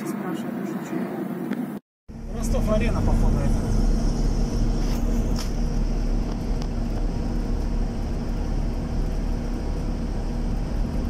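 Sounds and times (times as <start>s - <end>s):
road rumble: 0.0s - 11.0s
van engine hum: 2.1s - 11.0s.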